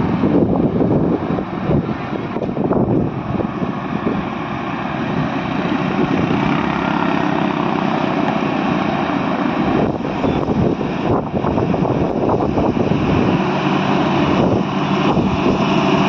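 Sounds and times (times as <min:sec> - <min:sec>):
truck diesel engine: 0:00.0 - 0:16.0.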